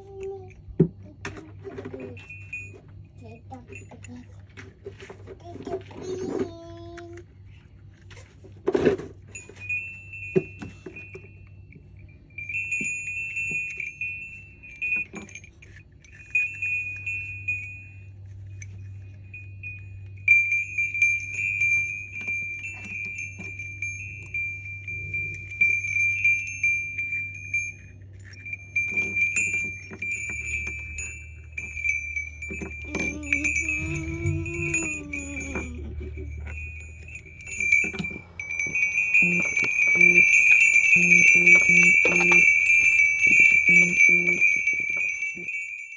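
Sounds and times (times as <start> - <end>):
metallic clinks: 0.0 - 45.9
small bells ringing: 0.0 - 45.9.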